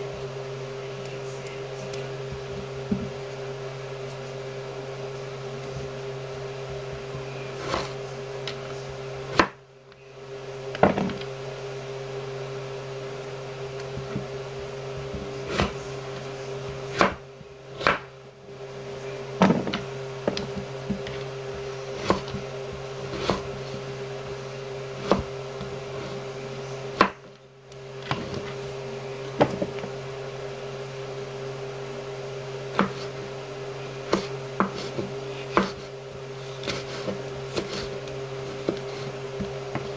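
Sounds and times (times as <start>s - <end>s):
low appliance hum: 0.0s - 39.9s.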